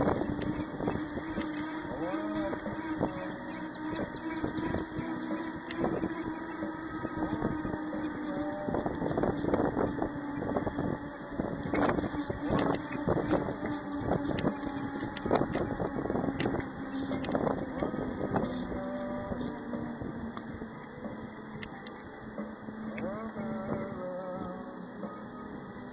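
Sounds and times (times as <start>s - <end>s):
wind on microphone: 0.0s - 25.2s
steady low hum: 0.0s - 25.9s.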